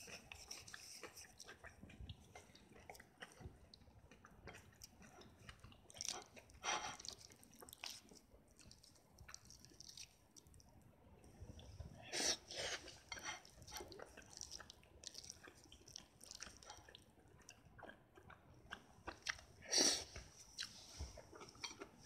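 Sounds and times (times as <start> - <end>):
person chewing crunchy food: 0.0 - 10.6, 11.6 - 22.0.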